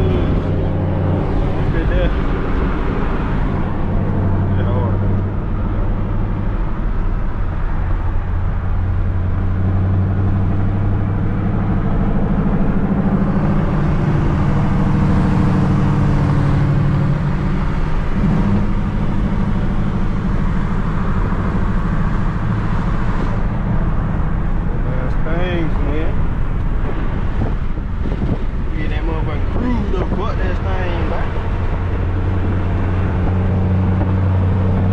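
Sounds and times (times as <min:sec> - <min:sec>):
car engine drone: 0:00.0 - 0:34.9
road noise inside car: 0:00.0 - 0:34.9.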